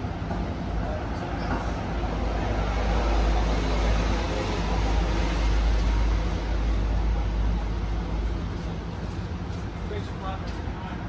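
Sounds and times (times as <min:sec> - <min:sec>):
tram running gear rumble: 0:00.0 - 0:11.0.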